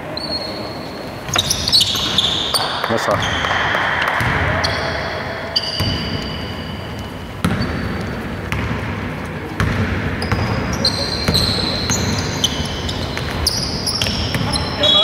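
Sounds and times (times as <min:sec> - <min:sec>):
sneaker squeaks: 0:00.0 - 0:08.8, 0:09.6 - 0:15.0
basketball bouncing on wooden floor: 0:01.3 - 0:05.0, 0:05.6 - 0:14.7.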